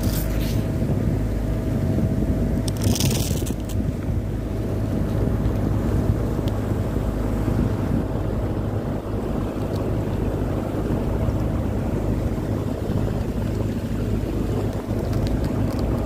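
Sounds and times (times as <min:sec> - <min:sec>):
boat engine droning: 0:00.0 - 0:16.0
water washing along hull: 0:00.0 - 0:16.0
wind on microphone: 0:00.0 - 0:16.0.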